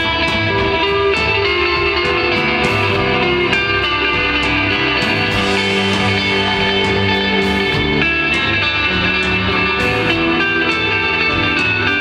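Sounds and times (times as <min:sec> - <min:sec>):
electric guitar notes: 0:00.0 - 0:12.0
rock band playing: 0:00.0 - 0:12.0.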